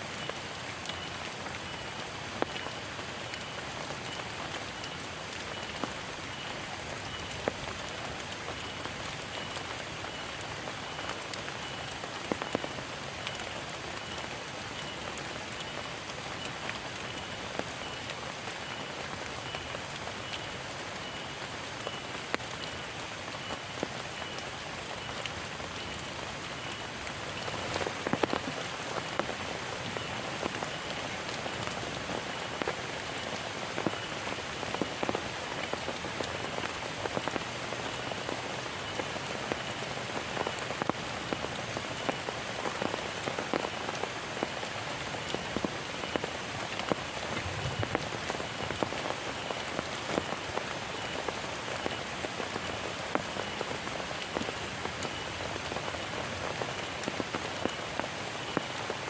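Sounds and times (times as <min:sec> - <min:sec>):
heavy rain hissing: 0:00.0 - 0:59.0
raindrops tapping on a surface: 0:00.0 - 0:59.0.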